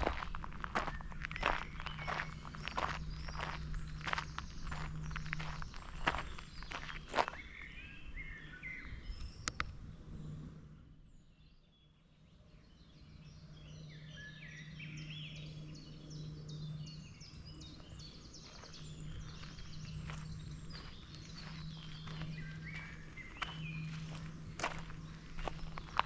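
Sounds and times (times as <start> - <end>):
steady low hum: 0.0 - 11.4, 12.4 - 26.0
birds chirping: 0.0 - 26.0.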